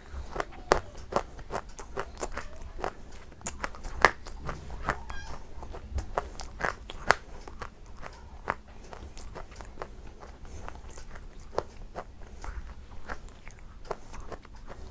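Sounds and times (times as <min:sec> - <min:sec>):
shale being chewed crunching: 0:00.0 - 0:14.9.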